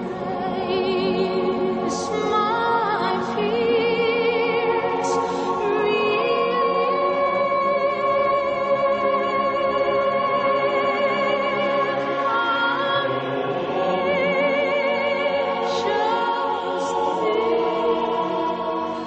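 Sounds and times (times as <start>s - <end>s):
choir singing sustained notes: 0.0s - 19.0s.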